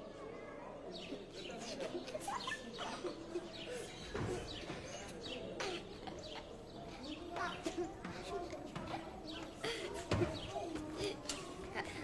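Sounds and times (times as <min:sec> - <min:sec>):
birds chirping: 0:00.9 - 0:11.5.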